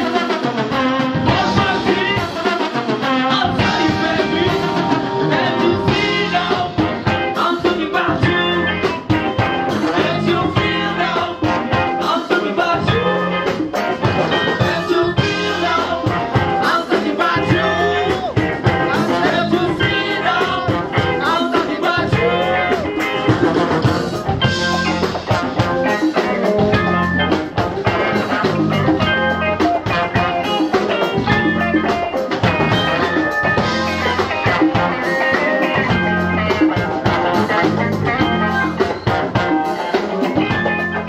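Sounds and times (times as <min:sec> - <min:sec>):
bass guitar: 0:00.0 - 0:41.0
drum kit: 0:00.0 - 0:41.0
electric guitars: 0:00.0 - 0:41.0
trombone: 0:00.0 - 0:41.0.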